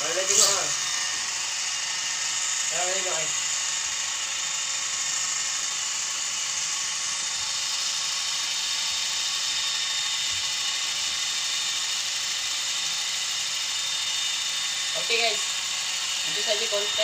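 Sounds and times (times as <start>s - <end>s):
toy helicopter rotor whir: 0.0s - 17.0s.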